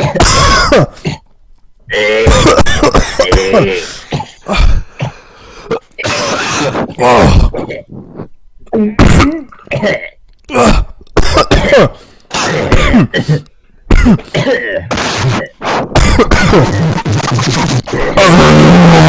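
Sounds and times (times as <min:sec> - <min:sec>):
person coughing: 0:00.0 - 0:01.3, 0:02.2 - 0:08.0, 0:08.8 - 0:18.6.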